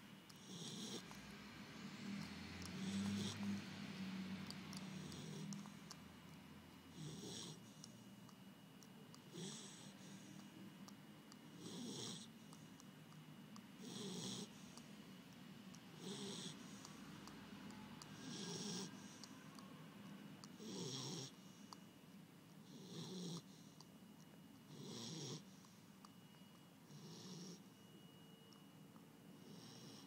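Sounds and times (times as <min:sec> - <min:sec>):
dog snoring softly: 0:00.0 - 0:13.0, 0:13.6 - 0:15.0, 0:15.7 - 0:19.8, 0:20.4 - 0:22.0, 0:22.6 - 0:30.0.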